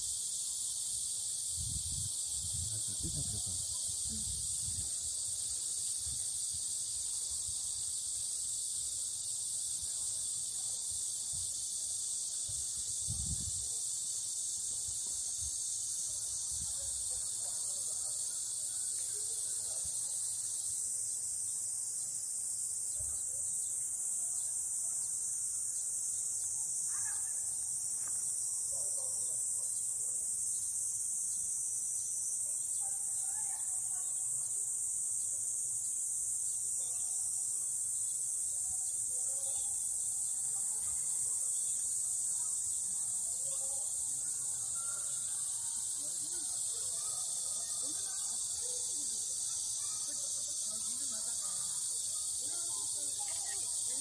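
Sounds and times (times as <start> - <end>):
high-pitched insects buzzing: 0.0 - 54.0.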